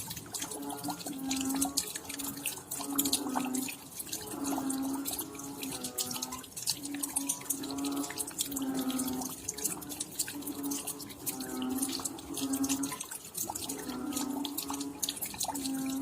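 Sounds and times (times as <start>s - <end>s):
raindrops dripping and pattering: 0.0s - 16.0s.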